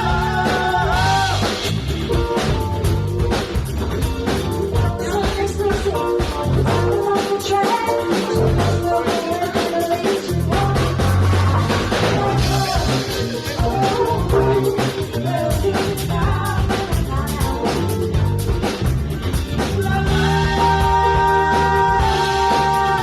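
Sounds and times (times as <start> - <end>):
funk band playing: 0.0 - 23.0.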